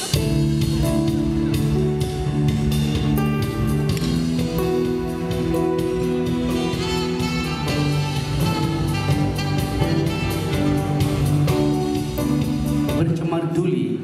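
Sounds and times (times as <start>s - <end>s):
saxophone: 0.0s - 12.9s
live band playing: 0.0s - 13.3s.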